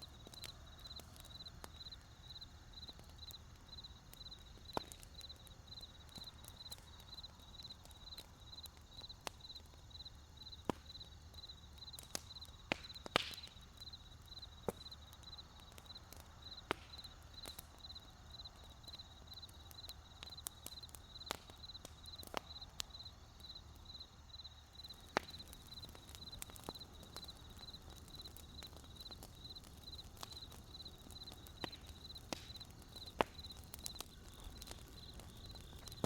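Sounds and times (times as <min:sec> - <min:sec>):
cricket chirping: 0:00.0 - 0:36.0
wood fire crackling and popping: 0:00.0 - 0:36.0.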